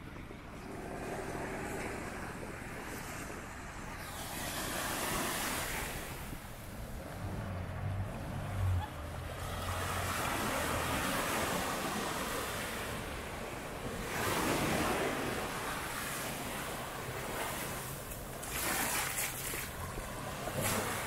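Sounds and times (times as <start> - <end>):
wind on microphone: 0.0 - 21.0
sea surf breaking on beach: 0.4 - 21.0.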